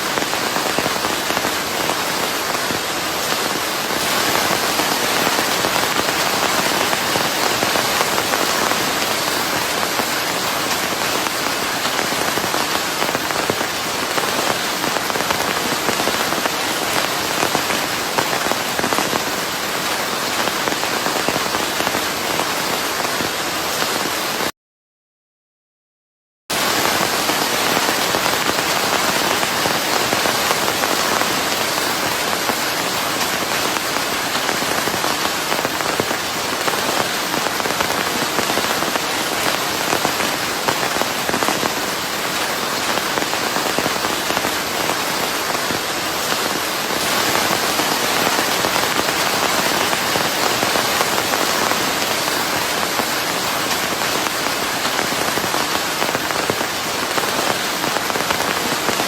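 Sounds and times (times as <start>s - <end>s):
steady rain: 0.0s - 24.5s, 26.5s - 59.0s.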